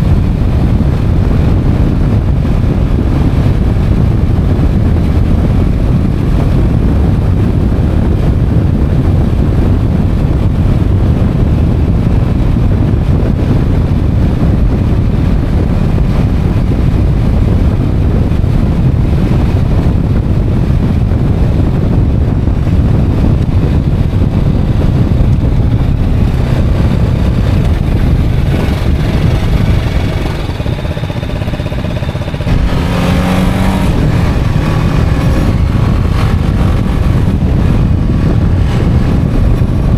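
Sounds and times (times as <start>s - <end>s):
motorcycle engine revving: 0.0s - 39.9s
wind rush over microphone: 0.0s - 39.9s.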